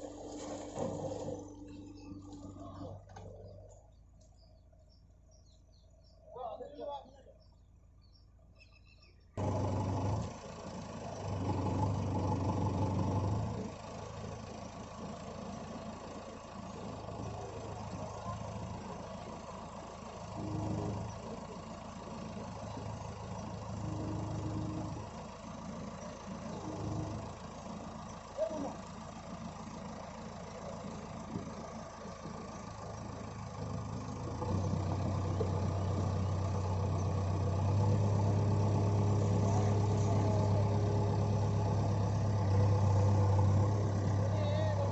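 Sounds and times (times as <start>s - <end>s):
diesel engine idling and revving: 0.0s - 44.9s.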